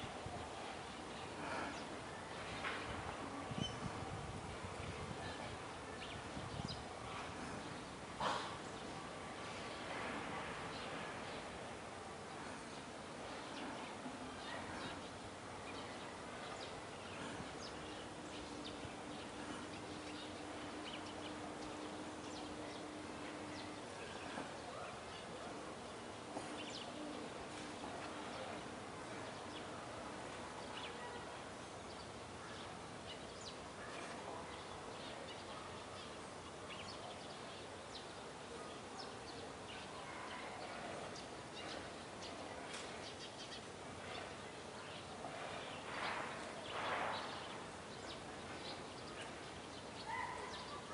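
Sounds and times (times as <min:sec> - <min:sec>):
low steady hum: 0:00.0 - 0:50.8.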